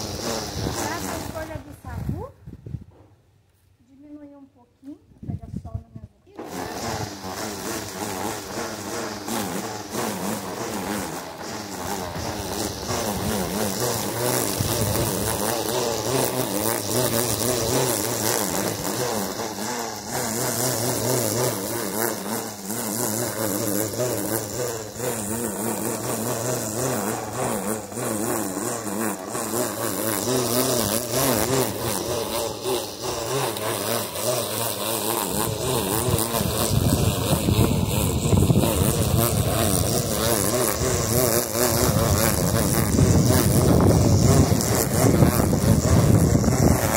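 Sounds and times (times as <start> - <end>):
string trimmer motor whine: 0.0 - 2.3, 6.3 - 46.9.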